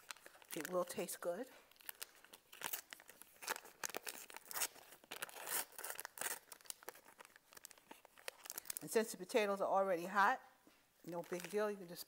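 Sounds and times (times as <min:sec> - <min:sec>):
wrapper crinkling and tearing: 0:00.0 - 0:09.1, 0:11.1 - 0:12.0.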